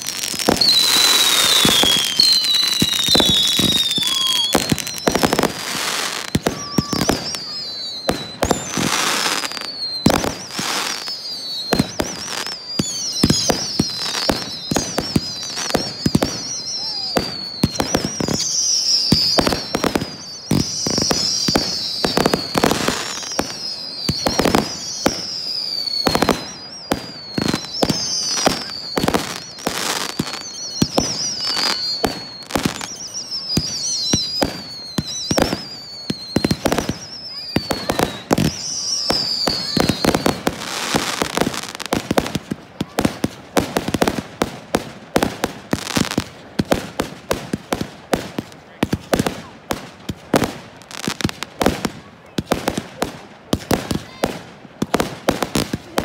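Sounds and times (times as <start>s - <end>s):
fireworks bangs: 0.0s - 56.0s
fireworks crackling and popping: 0.0s - 56.0s
fireworks whistles falling in pitch: 0.0s - 56.0s.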